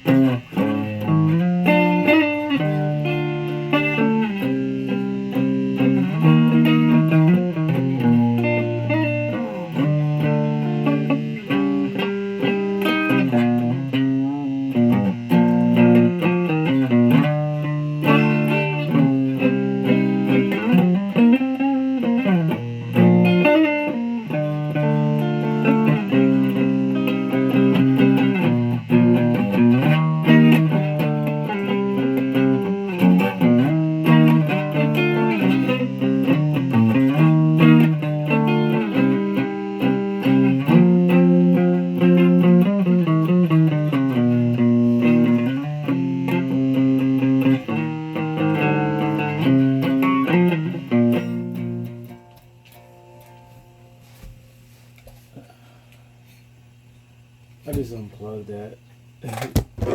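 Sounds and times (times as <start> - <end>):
electric guitar sustained notes: 0.0 - 53.9.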